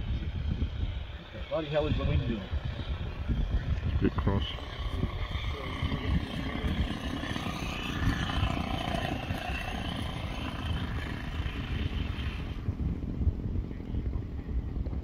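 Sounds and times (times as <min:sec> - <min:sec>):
model airplane engine running: 0:00.0 - 0:13.1
wind rumble on microphone: 0:00.0 - 0:15.0.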